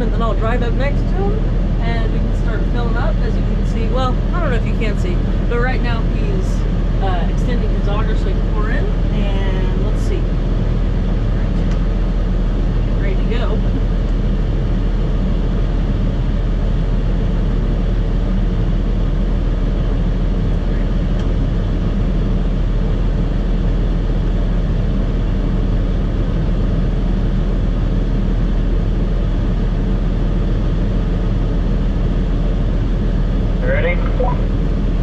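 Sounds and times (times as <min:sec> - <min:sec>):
tractor diesel engine running: 0:00.0 - 0:26.2, 0:28.2 - 0:35.0.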